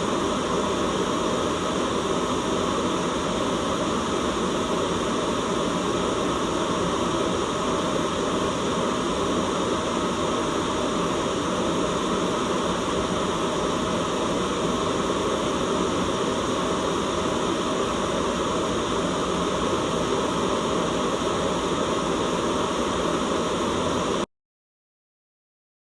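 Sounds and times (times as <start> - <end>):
white noise hiss: 0.0 - 24.3.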